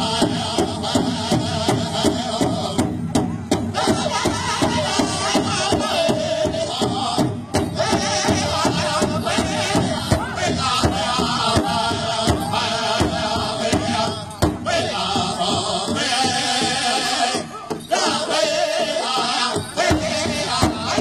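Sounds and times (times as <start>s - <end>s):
group singing in chorus: 0.0s - 3.0s, 3.6s - 21.0s
steady drum beat: 0.0s - 21.0s.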